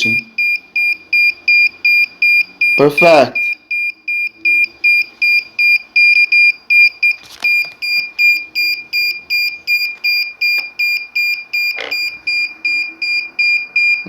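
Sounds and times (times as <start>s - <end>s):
short high-pitched beeps: 0.0s - 14.0s.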